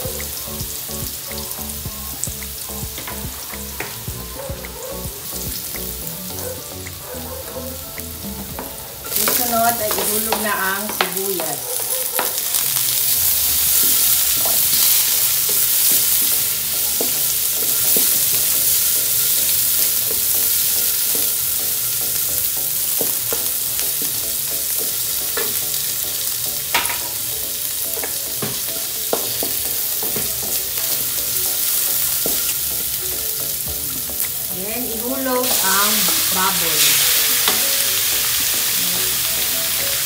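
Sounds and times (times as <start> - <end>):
onion sizzling in hot oil: 0.0 - 40.0.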